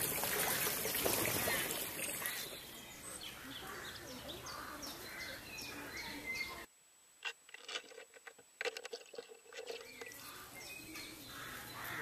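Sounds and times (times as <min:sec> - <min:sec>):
birds chirping: 0:00.0 - 0:06.7, 0:08.9 - 0:12.0.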